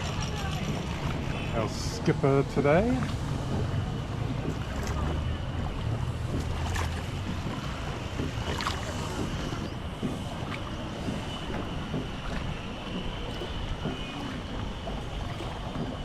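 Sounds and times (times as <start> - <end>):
oars knocking against boat: 0.0 - 16.0
water noise: 0.0 - 16.0.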